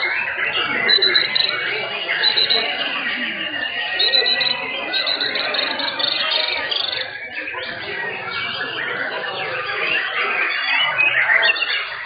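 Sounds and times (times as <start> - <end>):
birds singing in chorus: 0.0 - 12.0
murmur of crowd voices: 0.0 - 12.0.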